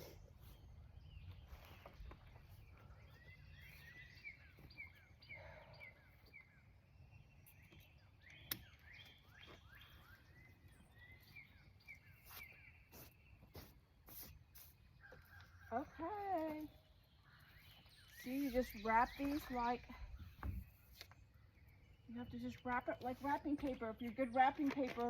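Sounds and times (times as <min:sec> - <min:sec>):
outdoor background noise: 0:00.0 - 0:25.0
small birds chirping: 0:00.0 - 0:25.0.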